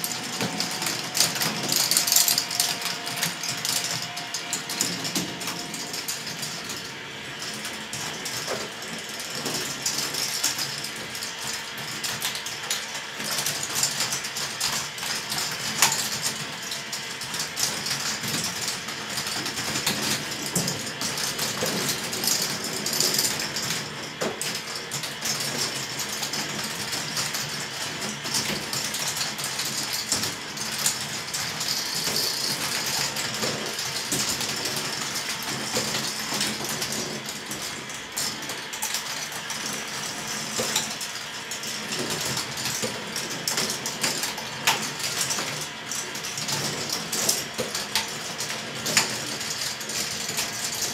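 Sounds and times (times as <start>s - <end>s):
balls clattering along plastic tracks: 0.0s - 50.9s
plastic gears whirring and ratcheting: 0.0s - 50.9s.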